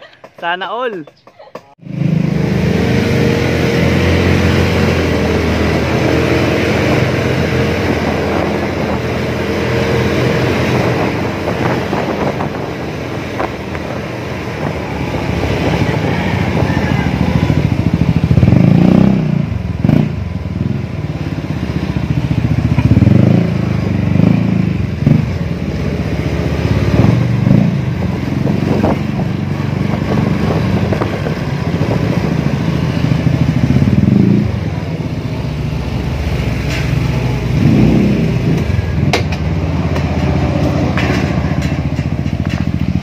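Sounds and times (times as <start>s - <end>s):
scooter engine: 0.0s - 43.0s.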